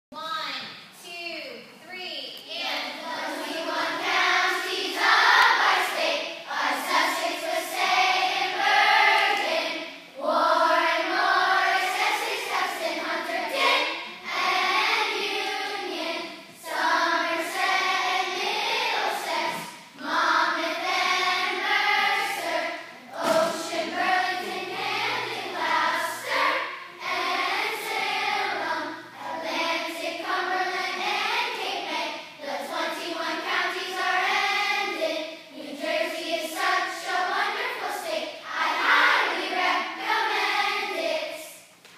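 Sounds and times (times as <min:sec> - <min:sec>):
children's choir singing: 0:02.7 - 0:41.8.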